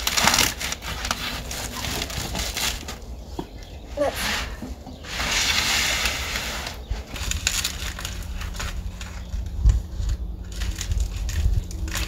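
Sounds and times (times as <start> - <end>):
foam and cardboard rustling: 0.0 - 12.0.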